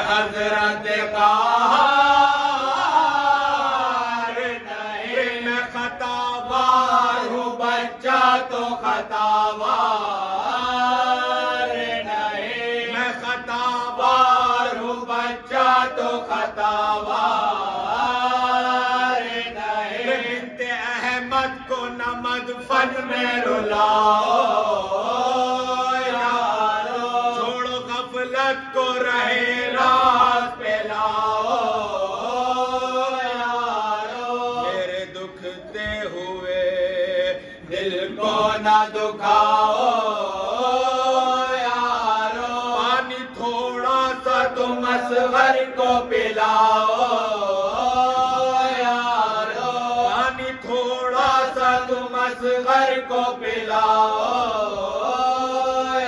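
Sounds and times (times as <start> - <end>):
man reciting into a microphone: 0.0 - 56.0.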